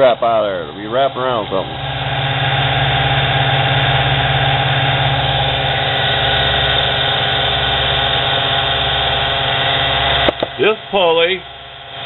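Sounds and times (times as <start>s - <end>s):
lathe motor drone: 0.0s - 12.0s.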